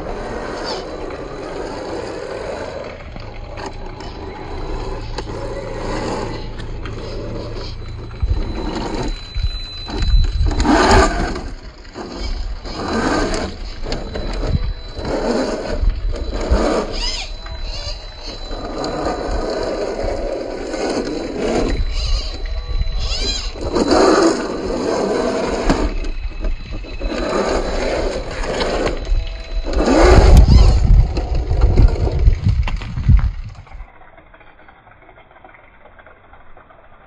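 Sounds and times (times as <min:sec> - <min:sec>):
tyres scraping over rock: 0:00.0 - 0:33.8
toy car motor whirring: 0:00.0 - 0:37.0.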